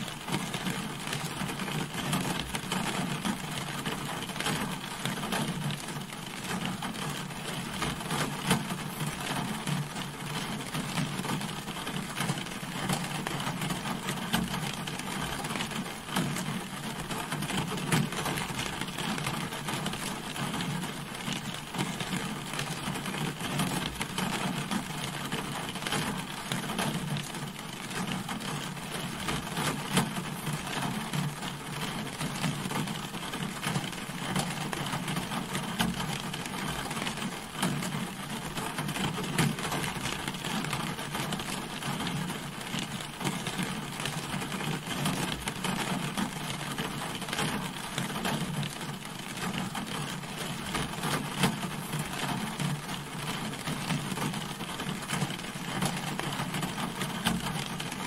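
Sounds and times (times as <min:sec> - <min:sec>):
rain pattering on a car: 0:00.0 - 0:58.0.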